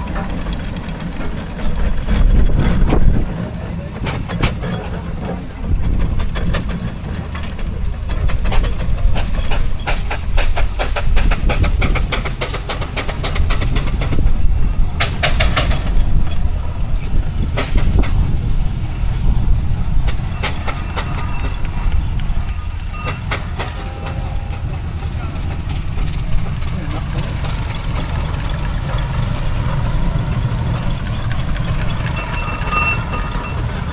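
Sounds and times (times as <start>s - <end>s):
rapid mechanical clatter: 0.0s - 33.9s
steam engine running: 0.0s - 33.9s.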